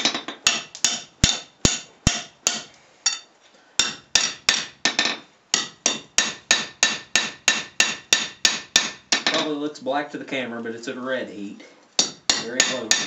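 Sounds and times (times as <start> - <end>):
hammer striking steel on anvil: 0.0 - 9.5, 12.0 - 13.0.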